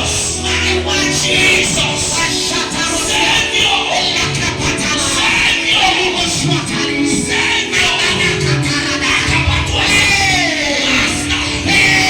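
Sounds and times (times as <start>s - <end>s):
loud worship music: 0.0s - 12.0s.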